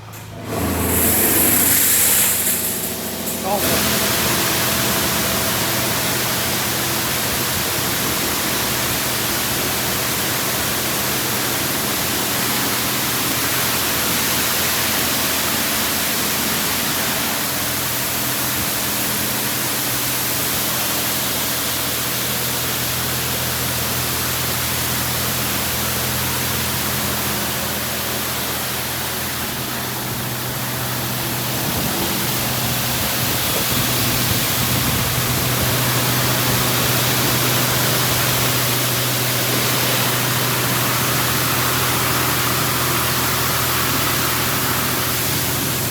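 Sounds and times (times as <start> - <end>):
high-pressure water jets spraying: 0.4 - 45.9.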